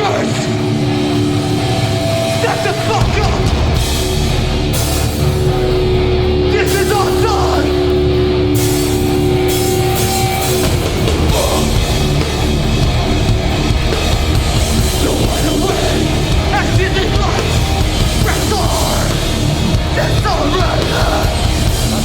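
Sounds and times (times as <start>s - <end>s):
hardcore band playing live: 0.0s - 22.0s.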